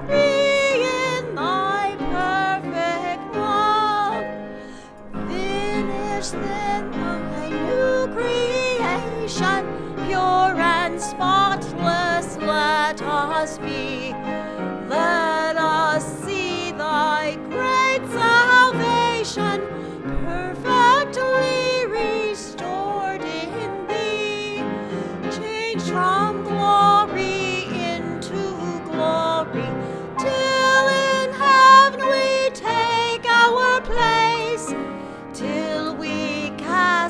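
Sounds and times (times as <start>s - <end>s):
sustained instrumental accompaniment: 0.0s - 37.0s.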